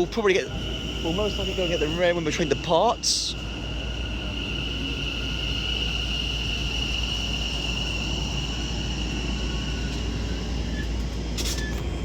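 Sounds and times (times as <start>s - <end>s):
constant low rumble: 0.0s - 12.0s
train electrical whine: 0.0s - 12.0s.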